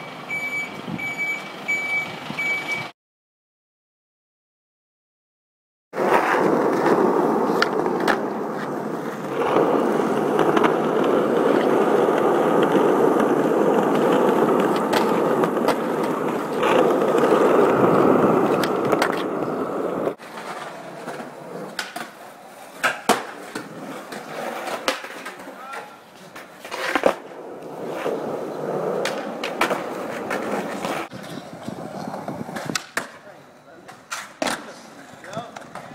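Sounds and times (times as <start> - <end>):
skateboard wheels rolling on pavement: 5.9 - 35.9
skateboard clacking on ground: 6.0 - 35.9.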